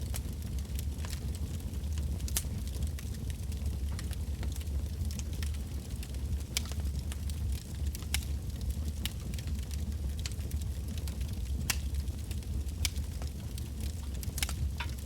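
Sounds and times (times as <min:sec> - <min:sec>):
wood bonfire crackling and popping: 0:00.0 - 0:15.0.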